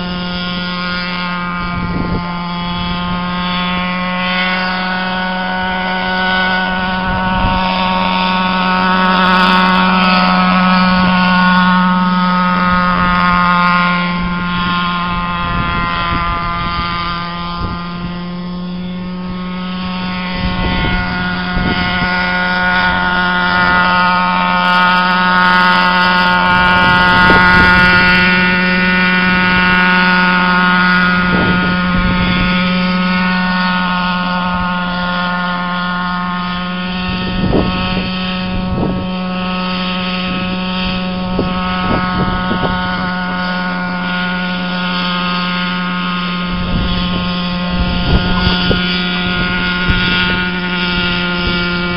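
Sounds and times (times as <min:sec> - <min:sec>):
model helicopter droning whine: 0:00.0 - 0:51.9.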